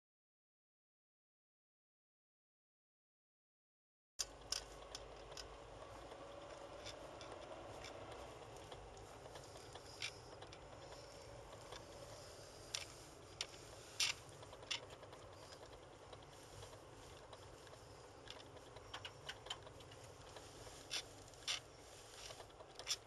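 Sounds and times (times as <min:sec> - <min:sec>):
road and engine noise in car: 0:04.3 - 0:23.0.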